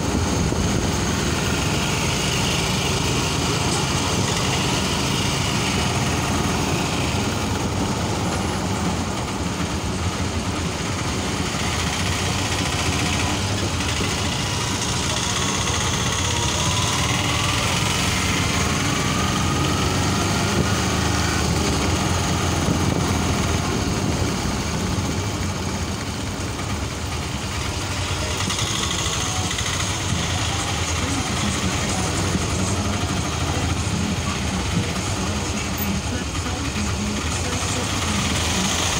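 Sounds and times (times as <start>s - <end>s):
rickshaw engine running: 0.0s - 38.9s
road and wind noise: 0.0s - 38.9s.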